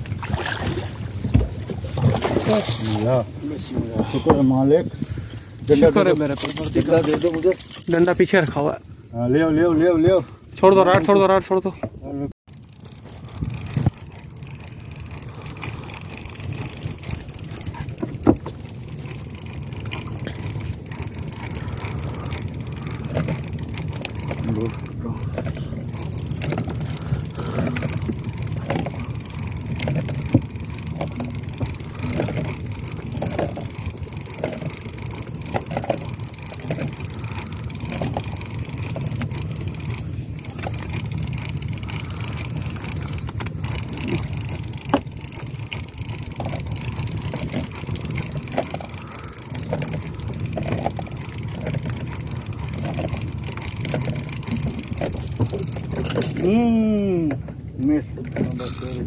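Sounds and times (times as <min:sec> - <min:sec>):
fishing reel knocks and clicks: 0:05.8 - 0:08.5, 0:12.5 - 0:57.6, 0:58.2 - 0:59.0.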